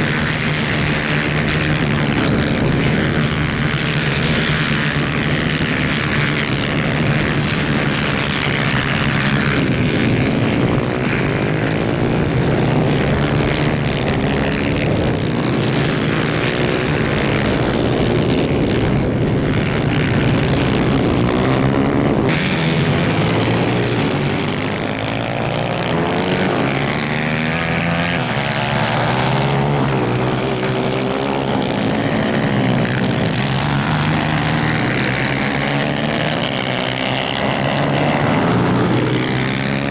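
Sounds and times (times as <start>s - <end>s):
kart engines revving: 0.0s - 39.9s.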